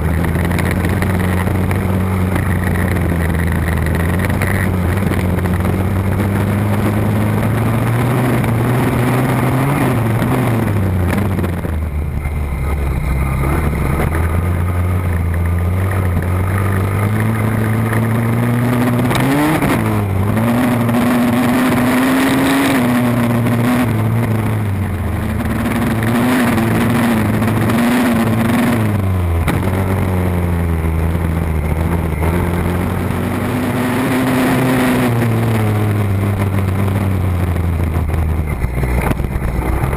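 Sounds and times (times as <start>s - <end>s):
small engine revving: 0.0s - 39.9s.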